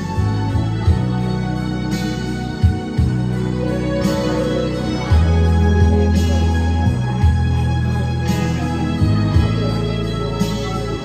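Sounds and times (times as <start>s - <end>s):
keyboard chords: 0.0s - 11.0s
steady bass: 0.0s - 11.0s.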